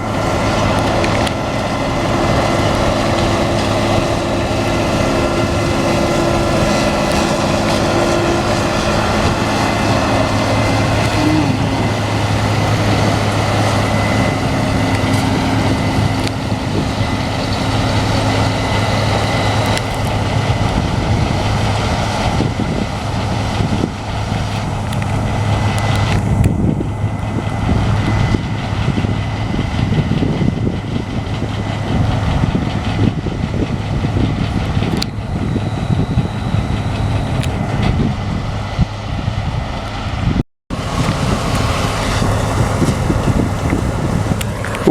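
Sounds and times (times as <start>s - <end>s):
diesel machinery engine hum: 0.0s - 44.9s.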